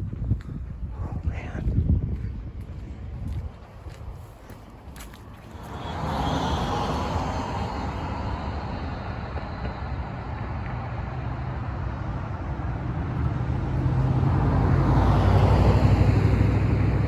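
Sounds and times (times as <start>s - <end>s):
motor vehicle engine rumble: 0.0s - 17.0s.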